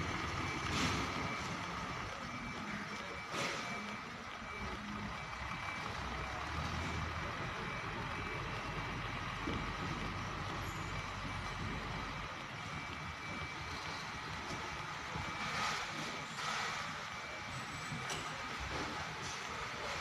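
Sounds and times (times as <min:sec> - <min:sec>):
diesel truck engine rumble: 0:00.0 - 0:20.0
truck reversing alarm beeping: 0:00.0 - 0:20.0.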